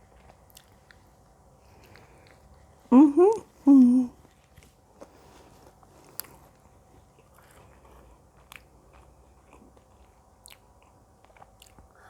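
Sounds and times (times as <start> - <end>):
chewing food: 0.0 - 3.6, 4.2 - 12.0.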